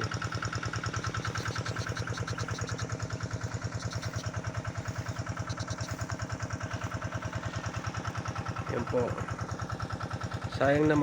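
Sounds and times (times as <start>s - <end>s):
small engine driving a pump: 0.0s - 11.0s.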